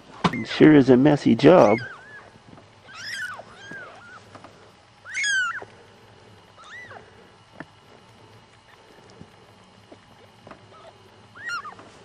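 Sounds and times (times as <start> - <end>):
kittens mewing: 1.5 - 9.4, 10.1 - 11.9.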